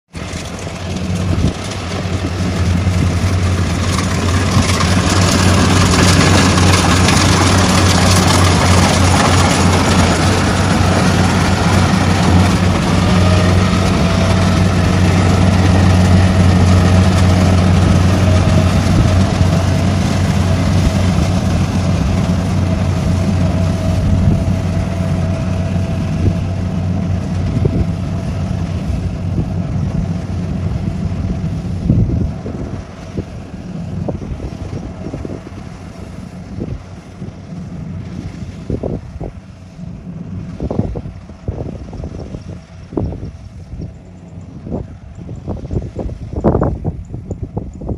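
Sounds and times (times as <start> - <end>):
combine harvester running: 0.1 - 47.9.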